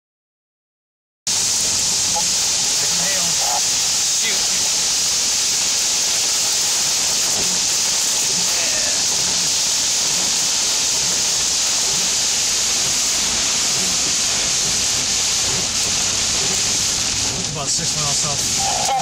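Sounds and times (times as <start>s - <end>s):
heavy rain on a car roof: 1.3s - 19.0s.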